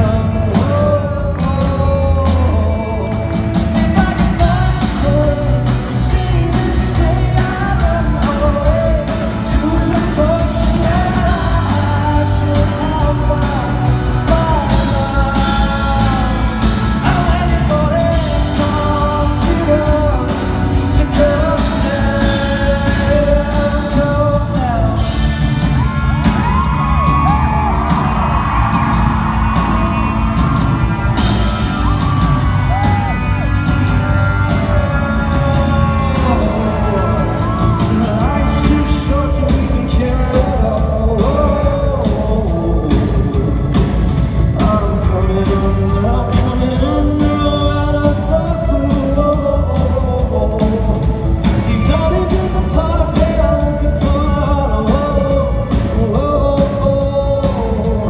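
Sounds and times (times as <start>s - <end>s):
man singing: 0.0s - 30.4s, 31.2s - 58.0s
audience yelling: 0.0s - 58.0s
rock band playing: 0.0s - 58.0s.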